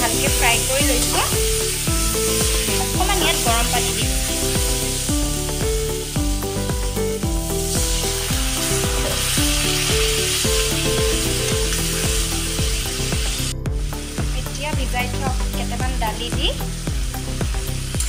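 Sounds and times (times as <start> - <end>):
background music with beat: 0.0 - 18.0
sauce sizzling in hot oil: 0.0 - 18.0.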